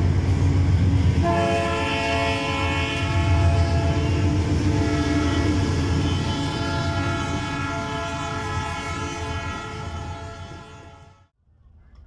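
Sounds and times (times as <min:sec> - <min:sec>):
train horn: 0:01.2 - 0:11.3.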